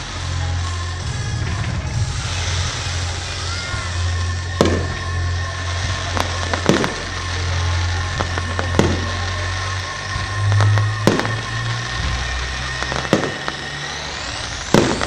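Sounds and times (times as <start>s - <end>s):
fireworks crackling: 0.0s - 15.0s
fireworks shells bursting: 0.0s - 15.0s
steady low hum: 0.0s - 15.0s.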